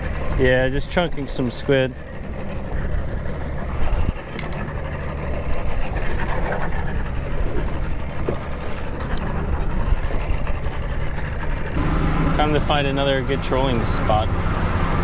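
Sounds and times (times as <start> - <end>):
boat engine humming: 0.0 - 15.0
water noise: 0.0 - 15.0
wind: 0.0 - 15.0.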